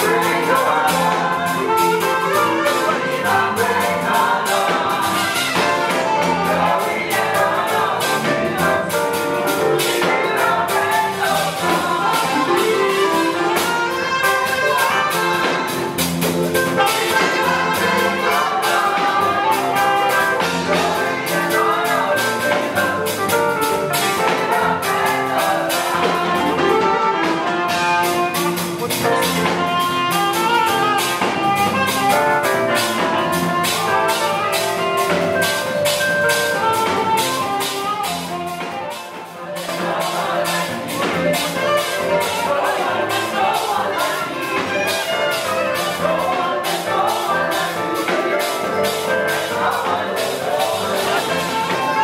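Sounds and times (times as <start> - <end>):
backing band with steady beat: 0.0 - 52.0
backup singers: 0.0 - 52.0
saxophone melody: 0.0 - 52.0.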